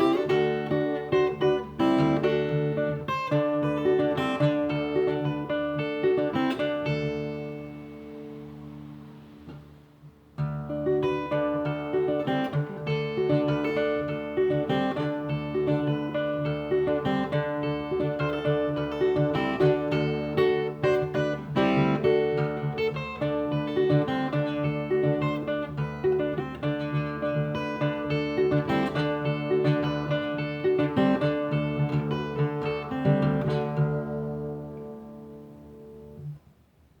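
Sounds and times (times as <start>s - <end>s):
fingerpicked acoustic guitar: 0.0s - 37.0s.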